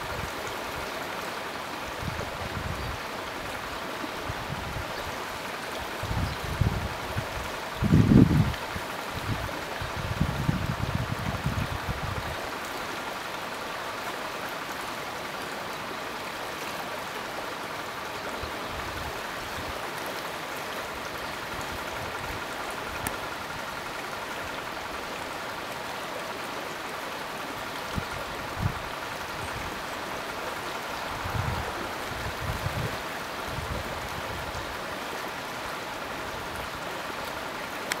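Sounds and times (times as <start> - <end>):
stream rushing water: 0.0 - 38.0.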